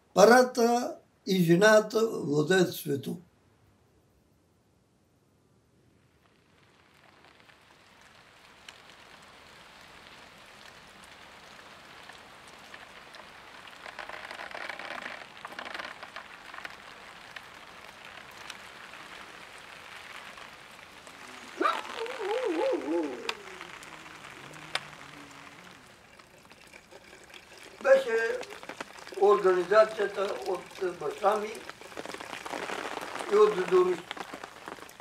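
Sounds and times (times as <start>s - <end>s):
rain falling: 6.0s - 35.0s.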